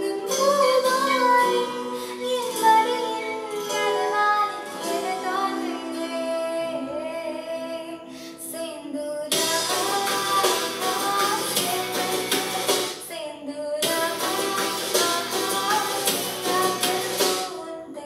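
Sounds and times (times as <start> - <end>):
girl singing into a microphone: 0.0 - 18.0.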